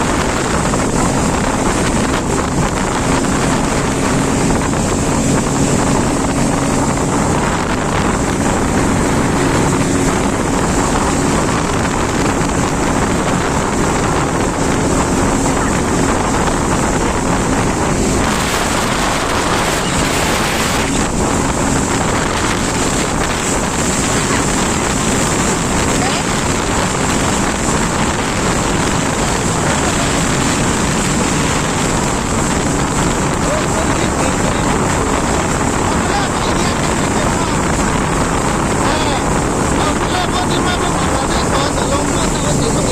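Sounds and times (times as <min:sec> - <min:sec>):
jet ski engine running: 0:00.0 - 0:42.9
water rushing: 0:00.0 - 0:42.9
wind buffeting microphone: 0:00.0 - 0:42.9.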